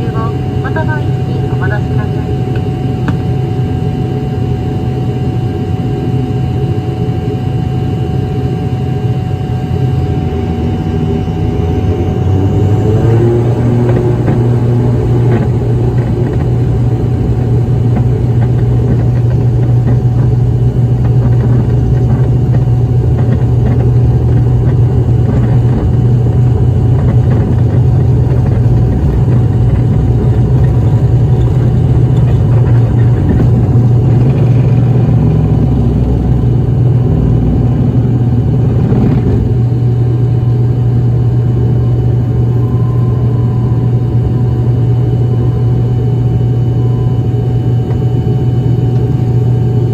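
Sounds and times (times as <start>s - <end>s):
turboprop engines droning: 0.0s - 49.9s.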